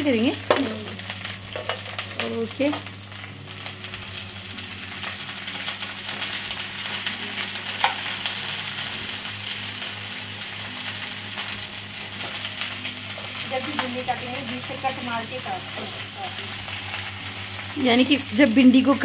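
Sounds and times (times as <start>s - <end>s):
okra sizzling in hot oil: 0.0s - 19.0s.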